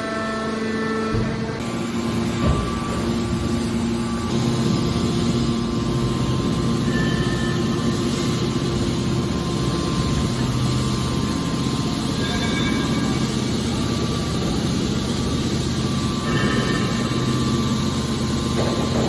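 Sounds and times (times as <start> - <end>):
hydraulic baler humming: 0.0 - 19.0.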